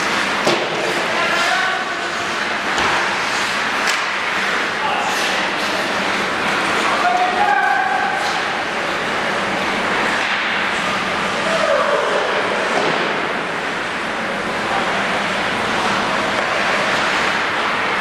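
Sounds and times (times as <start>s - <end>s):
ice rink rushing noise: 0.0s - 18.0s.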